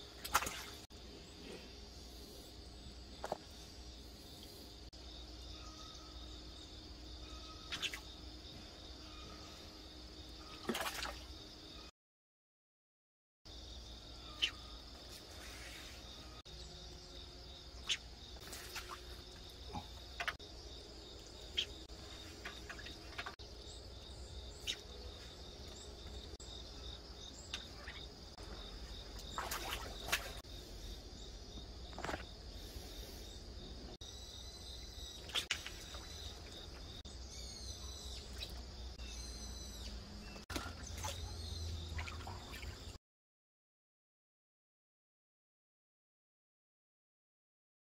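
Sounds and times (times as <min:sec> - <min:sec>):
birds chirping: 0:00.0 - 0:11.9, 0:13.7 - 0:43.0
insects chirring: 0:00.0 - 0:11.9, 0:13.5 - 0:43.0.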